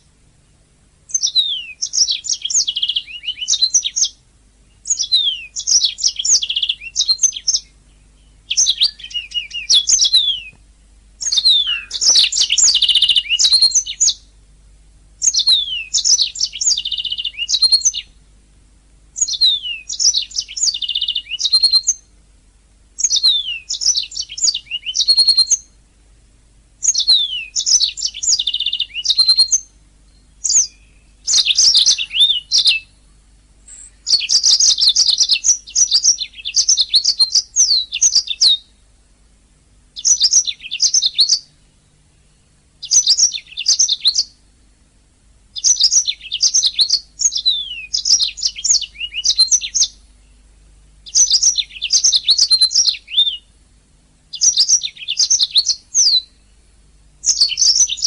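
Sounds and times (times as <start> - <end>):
canary singing trills: 1.1 - 10.6, 11.2 - 14.4, 15.2 - 18.2, 19.1 - 22.2, 23.0 - 25.8, 26.8 - 38.9, 39.8 - 44.6, 45.5 - 53.7, 54.3 - 58.0.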